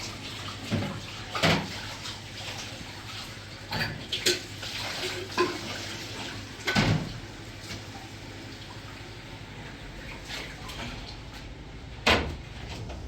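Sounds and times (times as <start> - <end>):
soft wash of water: 0.0 - 11.5.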